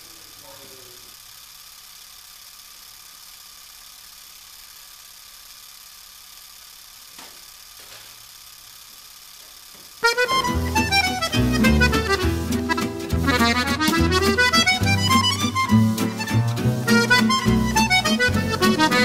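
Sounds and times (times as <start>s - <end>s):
even hiss: 0.0s - 19.0s.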